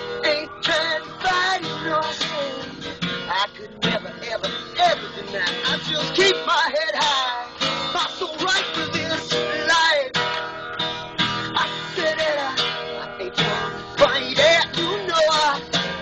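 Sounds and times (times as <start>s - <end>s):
acoustic blues guitar: 0.0s - 16.0s.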